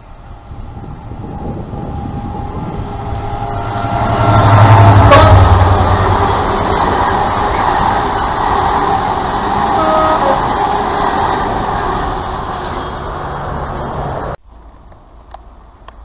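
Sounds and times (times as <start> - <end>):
freight train rushing past: 0.0 - 14.4.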